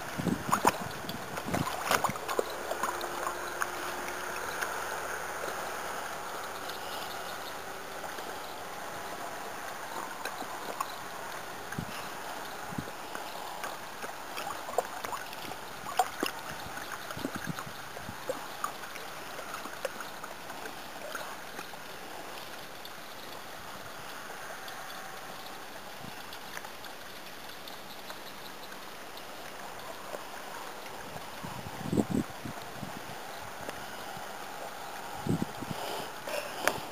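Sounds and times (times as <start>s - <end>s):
steady background hiss: 0.0s - 36.9s
water sloshing and splashing: 0.0s - 36.9s.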